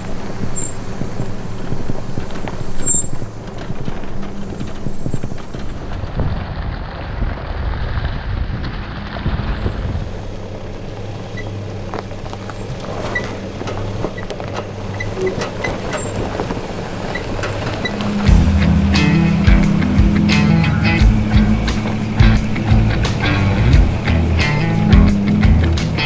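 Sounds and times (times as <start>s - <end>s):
low engine hum: 0.0s - 26.0s
tyres crunching over rocks: 0.0s - 26.0s.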